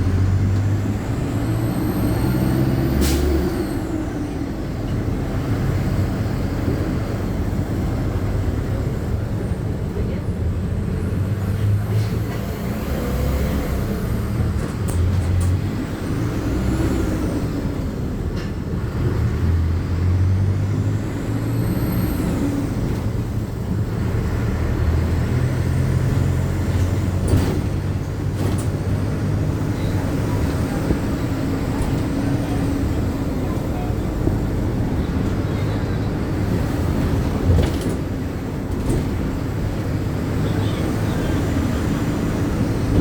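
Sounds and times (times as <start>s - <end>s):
bus engine rumbling: 0.0s - 43.0s
rattles and clicks from bus body: 0.0s - 43.0s.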